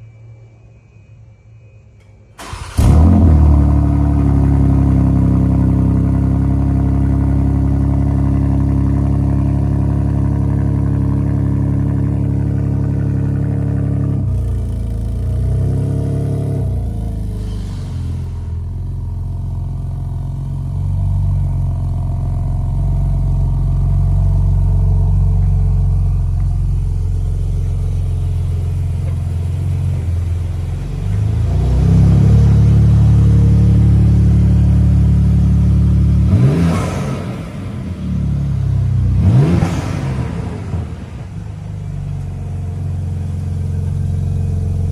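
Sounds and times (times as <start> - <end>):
engine throttle blips: 0.0 - 44.9
car engine idling high: 2.4 - 44.9.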